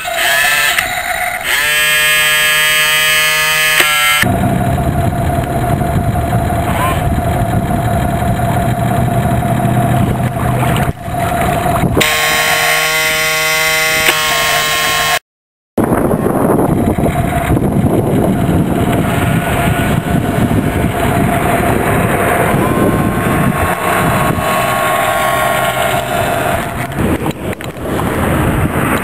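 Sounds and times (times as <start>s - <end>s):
model boat motor whine: 0.0s - 15.2s, 15.9s - 29.0s.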